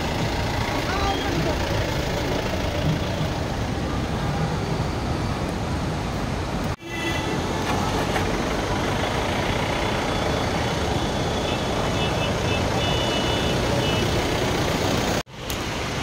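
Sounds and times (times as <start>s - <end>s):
traffic jam engines running: 0.0s - 16.0s.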